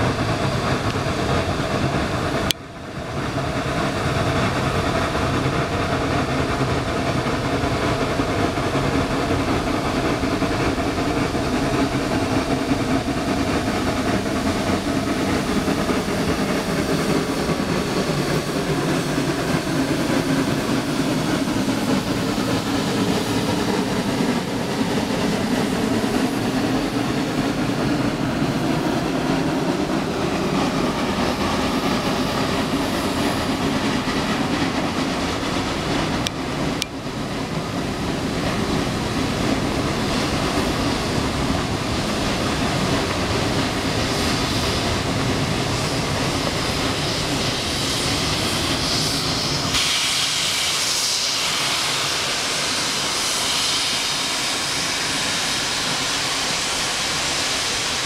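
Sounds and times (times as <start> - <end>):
steam locomotive passing: 0.0 - 58.0.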